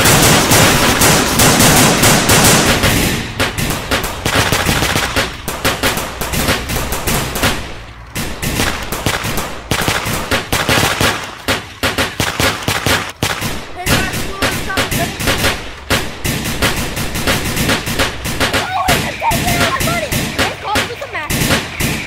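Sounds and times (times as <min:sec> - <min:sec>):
machine-gun bursts: 0:00.0 - 0:22.0.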